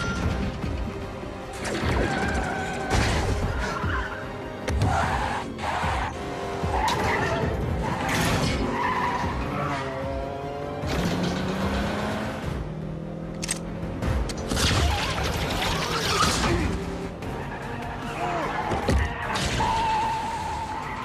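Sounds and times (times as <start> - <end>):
background music: 0.0 - 21.0
car engines revving: 0.0 - 21.0
tyres squealing and skidding: 1.5 - 11.8, 14.4 - 21.0.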